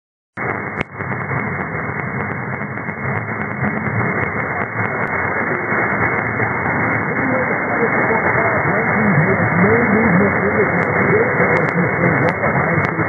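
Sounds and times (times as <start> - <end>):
light radio crackles: 0.4 - 13.0
radio static hiss: 0.4 - 13.0.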